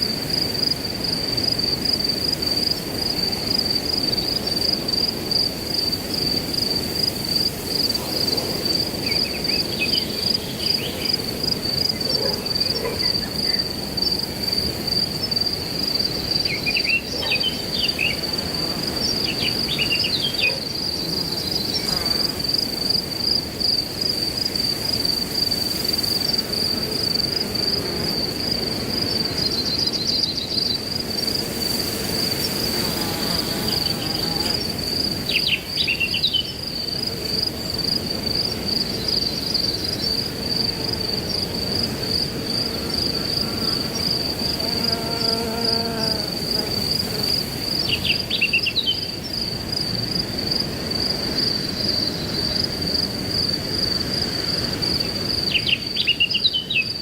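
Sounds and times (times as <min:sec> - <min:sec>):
crickets trilling: 0:00.0 - 0:57.0
wind through grass: 0:00.0 - 0:57.0.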